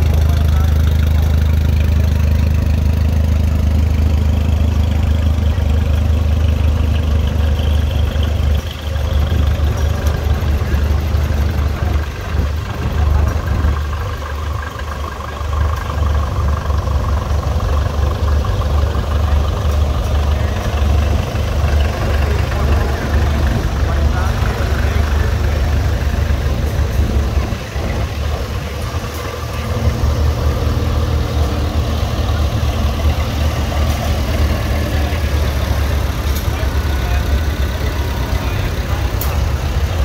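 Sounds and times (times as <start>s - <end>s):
tractor engine running slowly: 0.0s - 40.0s.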